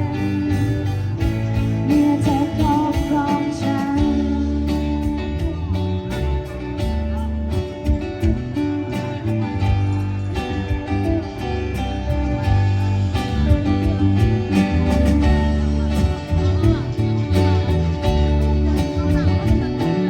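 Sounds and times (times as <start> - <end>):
rock band instrumental: 0.0 - 20.0.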